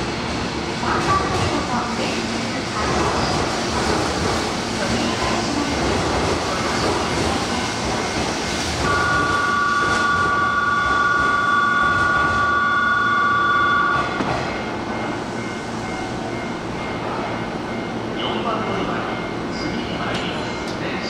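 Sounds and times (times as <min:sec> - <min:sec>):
electric train humming: 0:00.0 - 0:21.0
station noise: 0:00.0 - 0:21.0.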